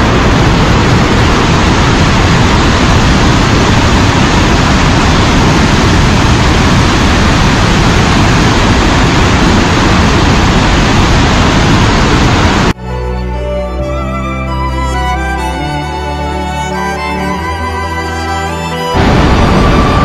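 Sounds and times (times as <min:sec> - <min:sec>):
rushing water: 0:00.0 - 0:12.8, 0:15.0 - 0:20.0.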